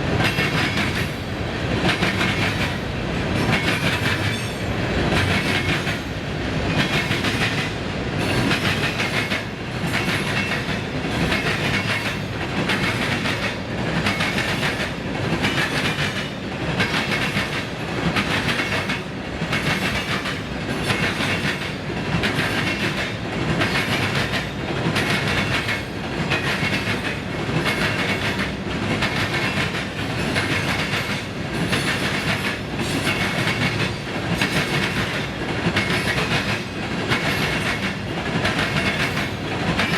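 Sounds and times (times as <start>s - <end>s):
train wheels clattering: 0.0s - 39.9s.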